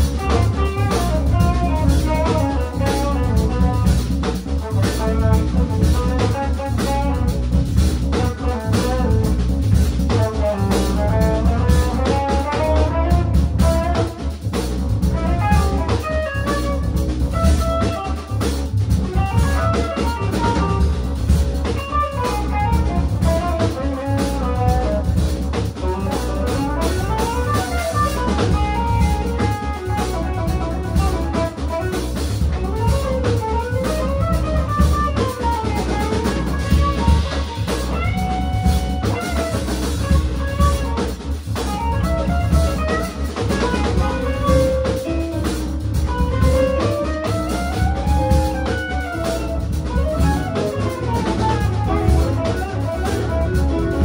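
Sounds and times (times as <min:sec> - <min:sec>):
jazz fusion band playing: 0:00.0 - 0:54.0.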